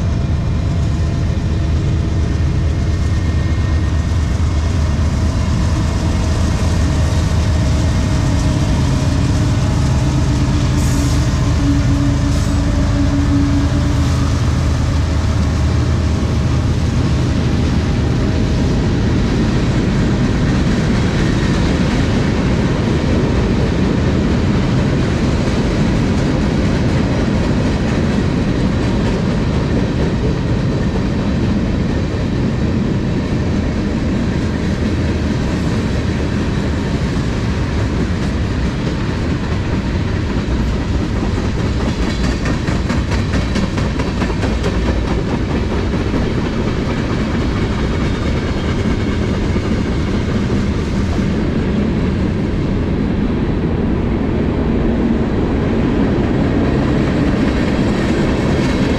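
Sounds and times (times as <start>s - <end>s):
steel wheels rolling on rail: 0.0s - 58.9s.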